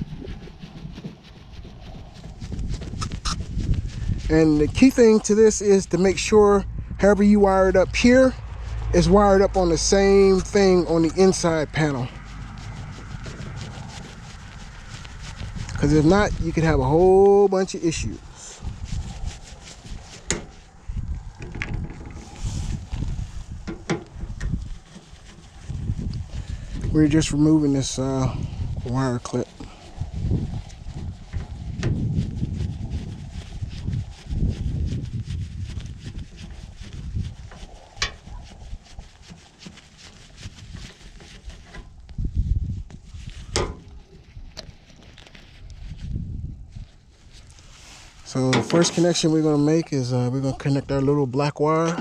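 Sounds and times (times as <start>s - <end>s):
dull low thumps: 0.0s - 17.3s, 18.0s - 39.2s, 41.9s - 44.6s, 46.0s - 47.6s
low handling rumble: 0.0s - 52.0s.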